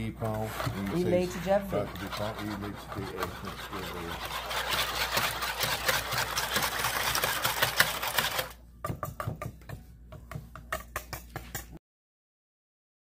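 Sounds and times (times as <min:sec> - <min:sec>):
whisk rattling against bowl: 0:00.0 - 0:11.8.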